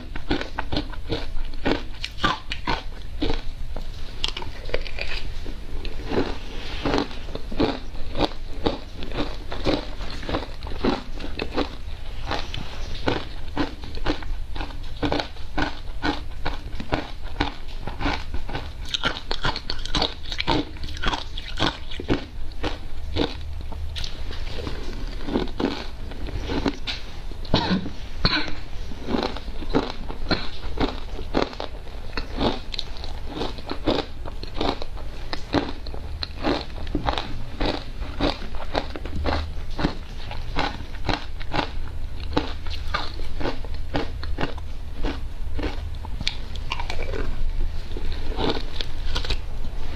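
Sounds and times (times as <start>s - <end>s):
chewing and crunching ice: 0.0s - 49.4s.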